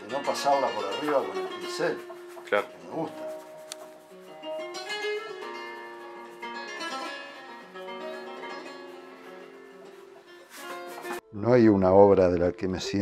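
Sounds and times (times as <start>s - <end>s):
guitar playing plucked notes: 0.0s - 11.2s.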